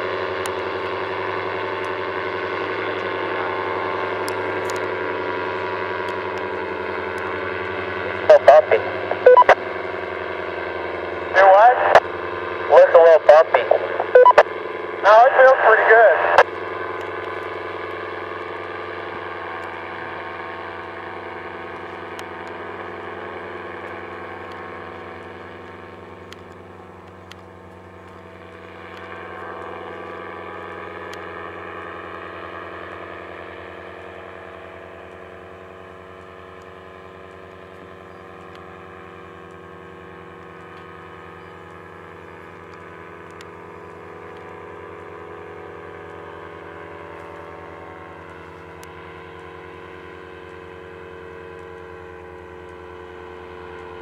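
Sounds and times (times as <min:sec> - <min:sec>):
paramotor engine drone: 0:00.0 - 0:54.0.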